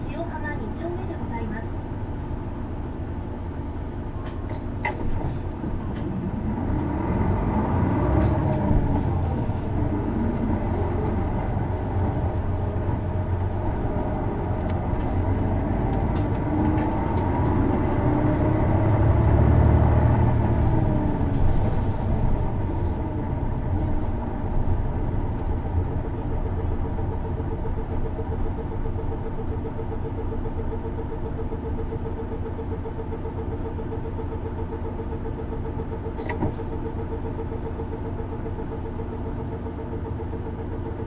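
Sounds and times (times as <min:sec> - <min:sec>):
bus diesel engine accelerating: 0:00.0 - 0:41.0.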